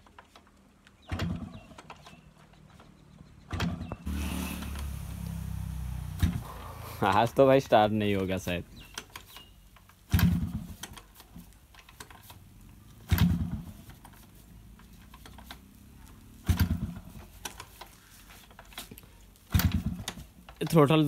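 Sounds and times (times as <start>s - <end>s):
motorcycle engine turning over: 1.0s - 21.0s.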